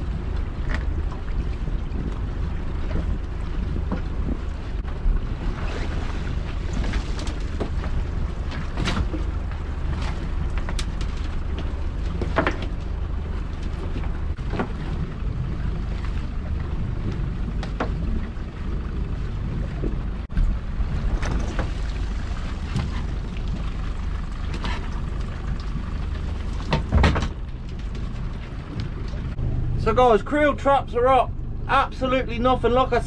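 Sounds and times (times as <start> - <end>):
water knocking against hull: 0.0 - 29.4
outboard motor rumbling: 0.0 - 33.0.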